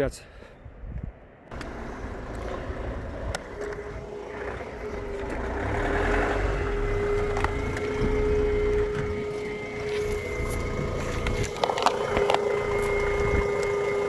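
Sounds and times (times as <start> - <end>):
vehicle engine rumbling: 1.0 - 14.0
steady hum: 1.5 - 14.0.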